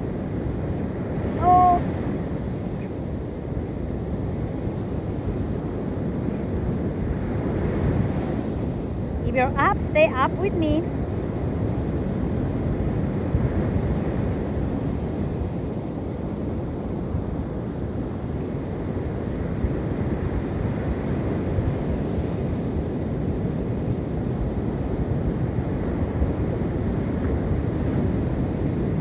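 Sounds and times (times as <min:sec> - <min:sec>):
sea surf on beach: 0:00.0 - 0:29.0
wind buffeting microphone: 0:00.0 - 0:29.0.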